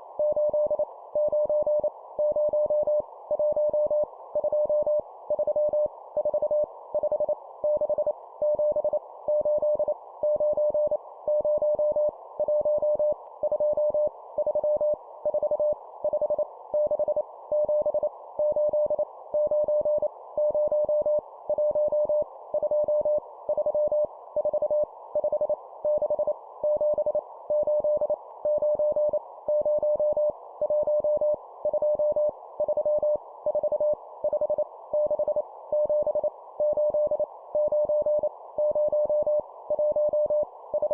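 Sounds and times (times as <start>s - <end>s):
morse code beeps: 7.7s - 40.9s.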